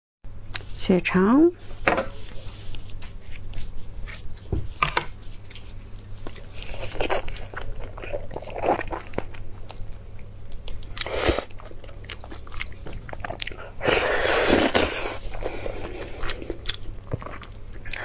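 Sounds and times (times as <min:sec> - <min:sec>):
wet chewing and biting: 0:02.8 - 0:18.0.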